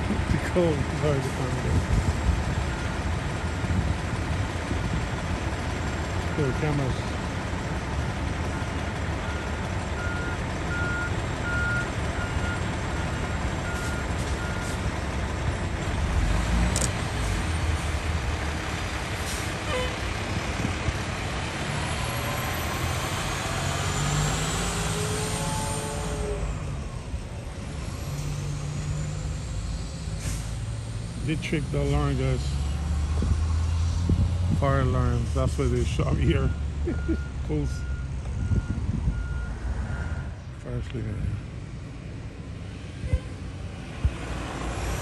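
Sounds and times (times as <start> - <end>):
diesel engine pulling away: 0.0 - 45.0.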